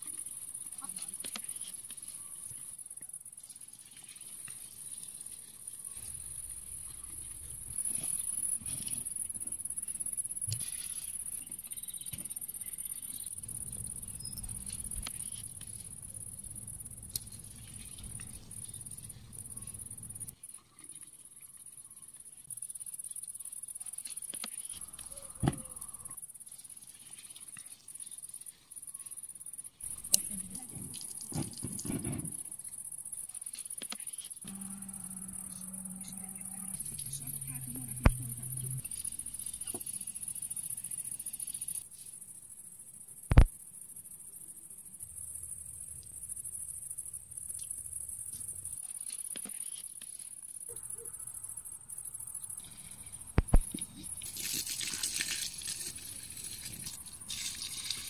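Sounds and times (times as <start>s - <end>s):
insect chirring: 0.0s - 58.0s.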